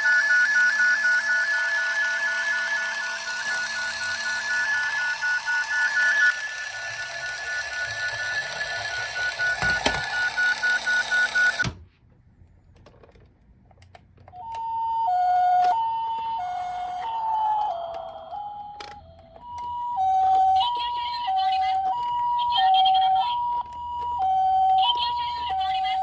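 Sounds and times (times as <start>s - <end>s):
two-tone toy siren: 0.0s - 11.6s, 14.3s - 26.0s.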